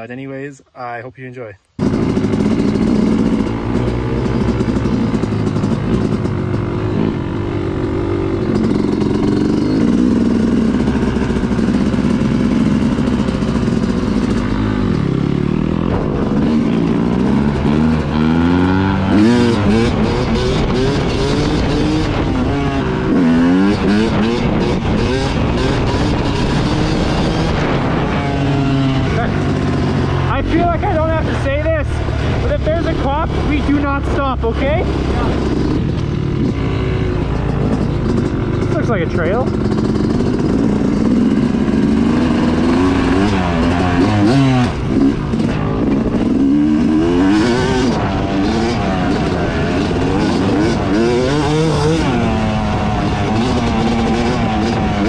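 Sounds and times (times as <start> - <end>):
dirt bike engine revving: 1.8 - 55.0.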